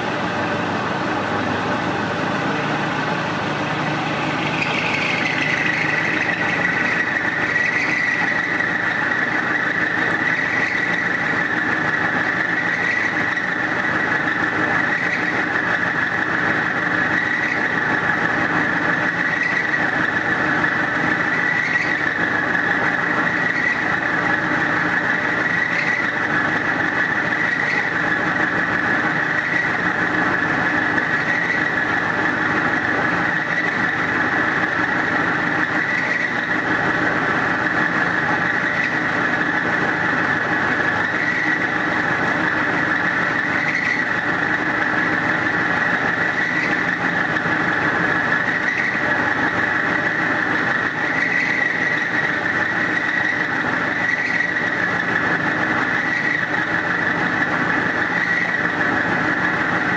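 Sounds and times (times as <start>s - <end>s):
milling cutter whine: 0.0s - 59.9s.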